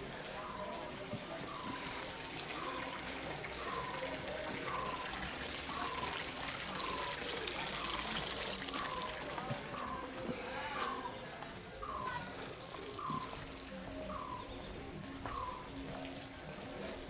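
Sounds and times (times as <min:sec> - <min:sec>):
water pouring and splashing: 0:00.0 - 0:14.0.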